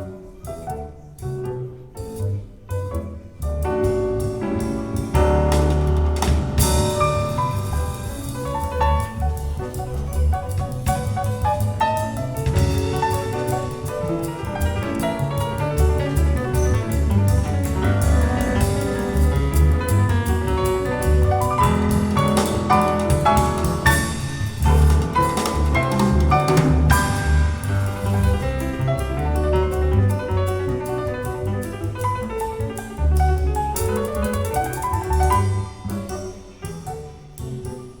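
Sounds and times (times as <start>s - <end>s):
piano with bass and drums: 0.0s - 38.0s.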